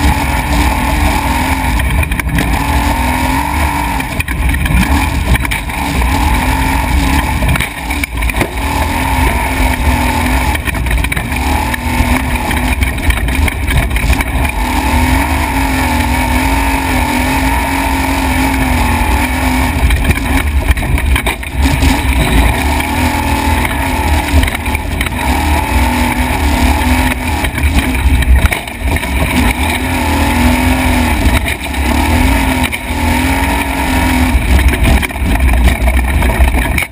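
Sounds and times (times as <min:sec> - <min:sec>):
heavy low rumble: 0:00.0 - 0:36.9
truck engine revving at speed: 0:00.0 - 0:36.9.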